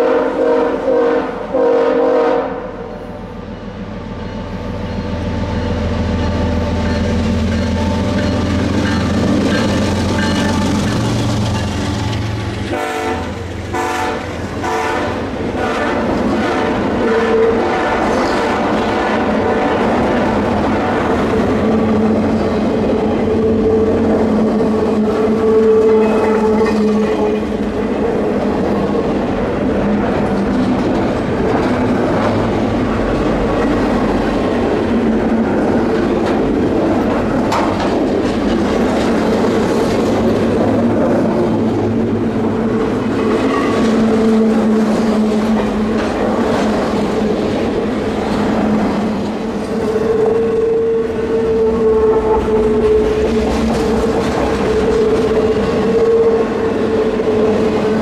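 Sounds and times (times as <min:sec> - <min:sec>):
train wheels clacking over rails: 0:06.0 - 0:58.0.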